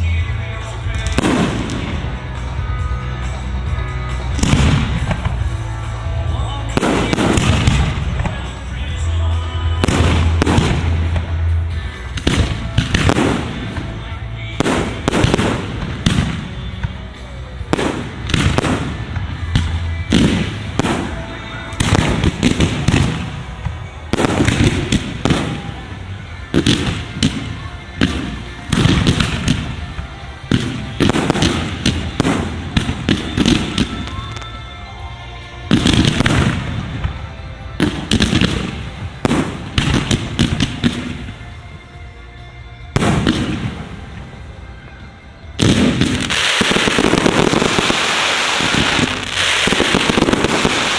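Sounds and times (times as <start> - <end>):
fireworks bursting: 0.0 - 50.9
fireworks crackling: 0.0 - 50.9.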